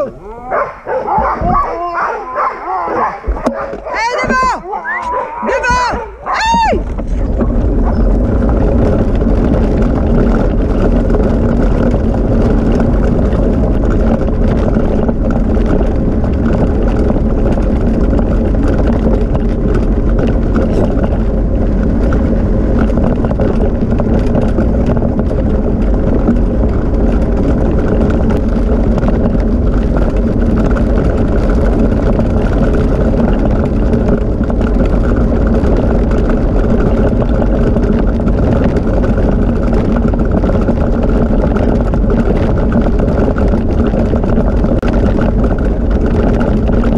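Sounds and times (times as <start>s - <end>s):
rig wheels rolling: 0.0s - 46.9s
wind on microphone: 0.0s - 46.9s.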